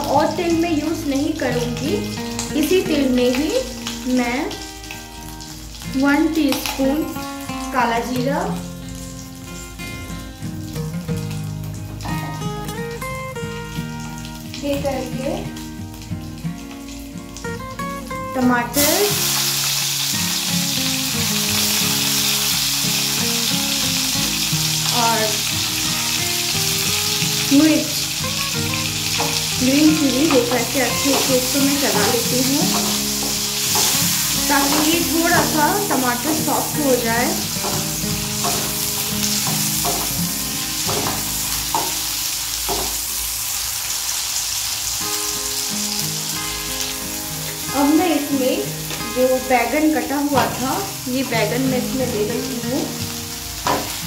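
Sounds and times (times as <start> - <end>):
tomatoes sizzling in hot oil: 0.0 - 54.0.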